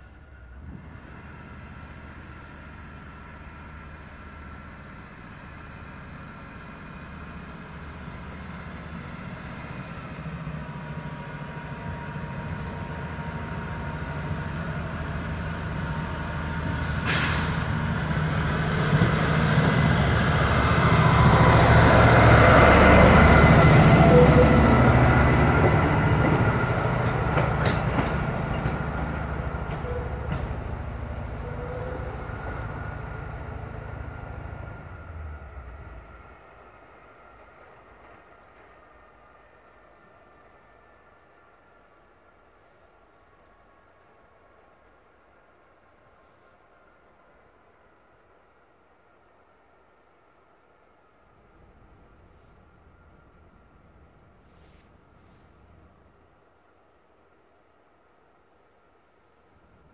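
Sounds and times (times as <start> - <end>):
rail vehicle engine passing: 0.0 - 59.9.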